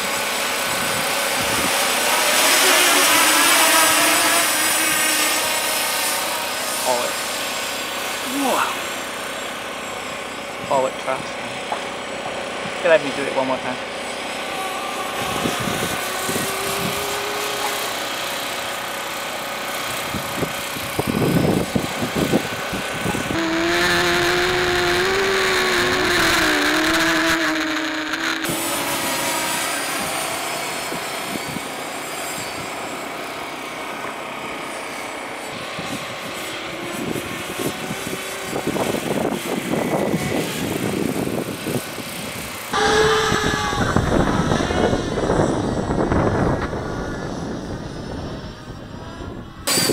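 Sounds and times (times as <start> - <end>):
quadcopter buzzing overhead: 0.0 - 49.9.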